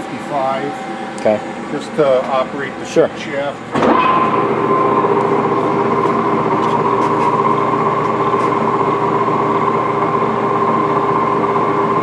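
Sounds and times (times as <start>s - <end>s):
lathe machine hum: 0.0s - 12.0s
gear whine: 0.4s - 11.8s.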